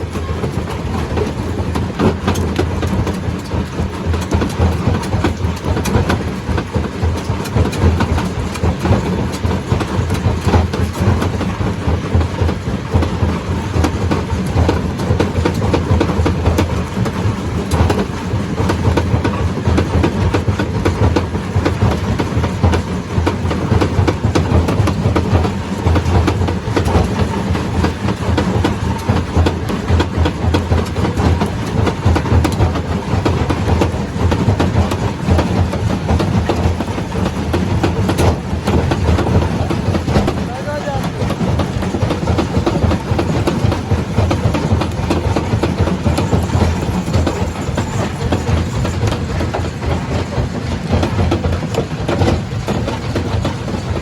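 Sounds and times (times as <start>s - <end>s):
machine rumble: 0.0s - 54.0s.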